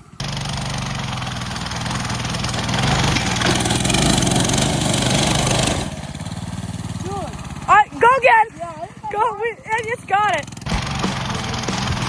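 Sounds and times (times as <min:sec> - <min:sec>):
mini bike engine running hard: 0:00.0 - 0:12.0.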